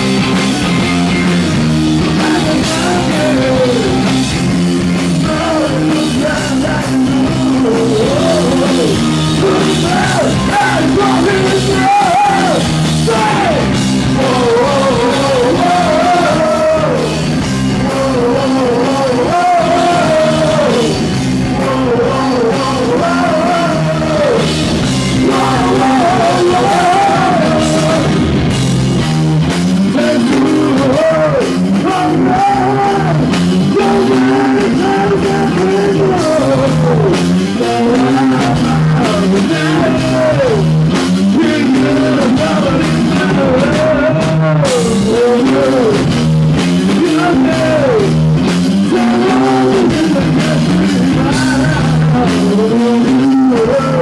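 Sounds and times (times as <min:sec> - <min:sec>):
bass guitar: 0:00.0 - 0:54.0
drum kit: 0:00.0 - 0:54.0
man singing: 0:01.0 - 0:28.4, 0:29.7 - 0:54.0.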